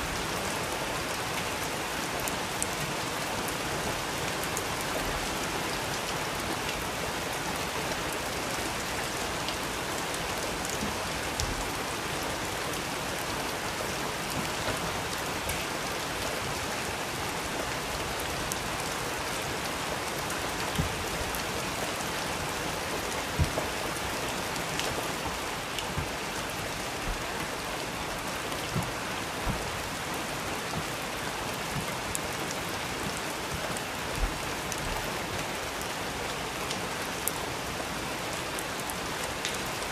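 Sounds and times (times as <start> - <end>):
steady rain hiss: 0.0 - 39.9
louder raindrops tapping: 0.1 - 37.5.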